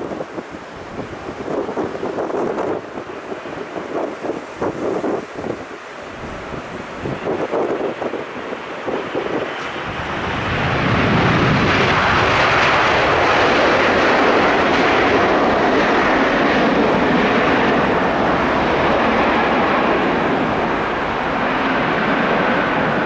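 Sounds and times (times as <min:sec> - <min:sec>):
jet engines roaring: 0:00.0 - 0:23.0
wind buffeting microphone: 0:00.0 - 0:23.0.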